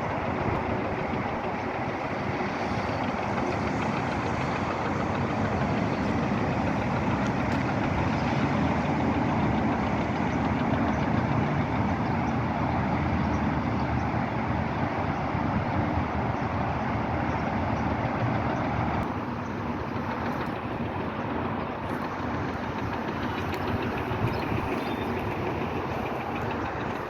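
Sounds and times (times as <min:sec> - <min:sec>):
heavy vehicle engines running: 0:00.0 - 0:27.0.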